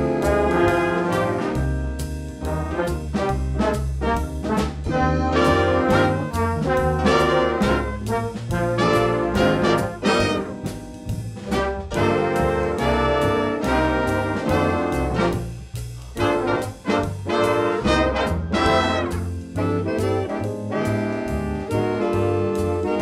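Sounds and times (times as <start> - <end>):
bass line: 0.0 - 23.0
brass band playing: 0.0 - 23.0.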